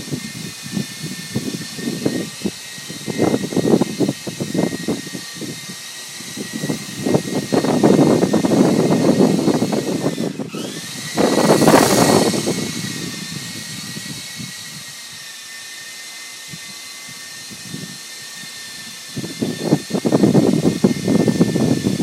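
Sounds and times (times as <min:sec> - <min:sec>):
high motor whine: 0:00.0 - 0:22.0
rough buzz: 0:00.0 - 0:22.0.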